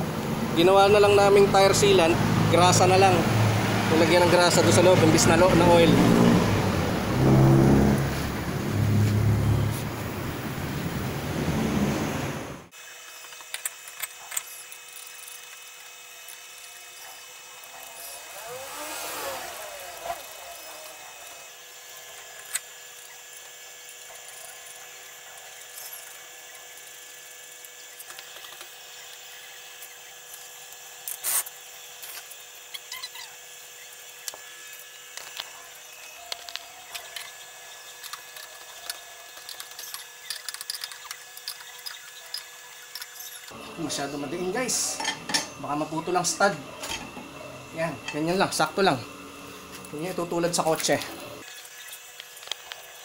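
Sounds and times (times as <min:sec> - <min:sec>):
steady multi-tone hum: 0:00.0 - 0:53.0.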